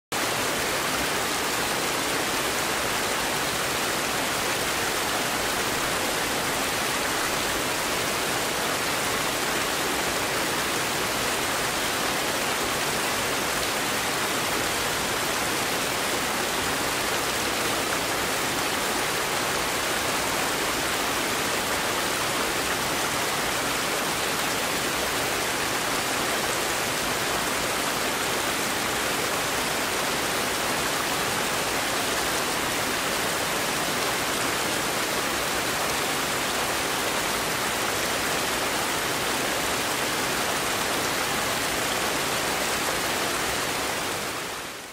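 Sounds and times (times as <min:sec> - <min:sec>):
river rushing over rapids: 0:00.2 - 0:44.9.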